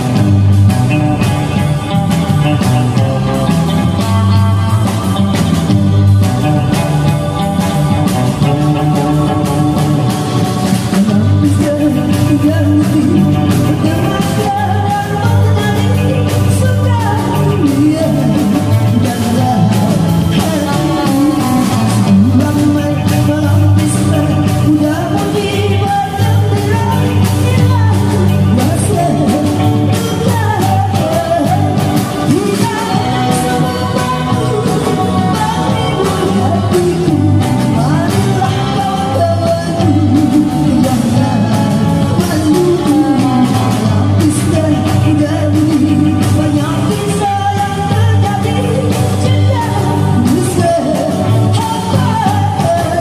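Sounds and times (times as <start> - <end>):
bass guitar: 0.0 - 53.0
drum kit beat: 0.0 - 53.0
electric guitars: 0.0 - 53.0
keyboard: 0.0 - 53.0
woman singing: 0.0 - 53.0.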